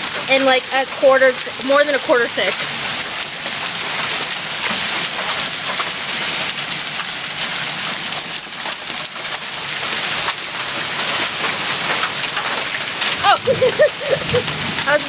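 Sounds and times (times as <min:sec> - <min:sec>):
hailstones ticking: 0:00.0 - 0:15.0
heavy rain hissing: 0:00.0 - 0:15.0.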